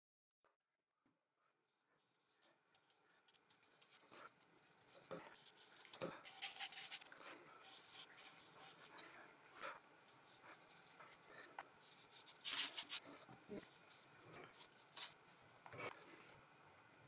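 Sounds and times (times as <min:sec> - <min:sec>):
paintbrush scratching on paper: 0:02.0 - 0:16.1.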